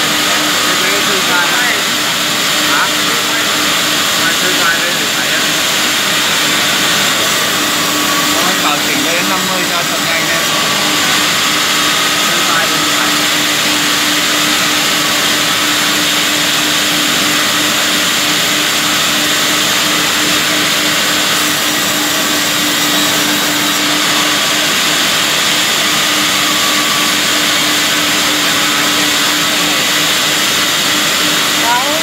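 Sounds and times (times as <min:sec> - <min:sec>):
band saw cutting log: 0:00.0 - 0:32.0.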